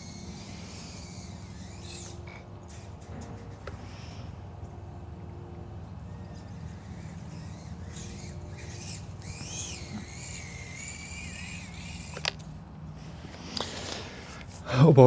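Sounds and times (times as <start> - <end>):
drone motors whining: 0.0 - 14.7
steady low hum: 0.0 - 15.0.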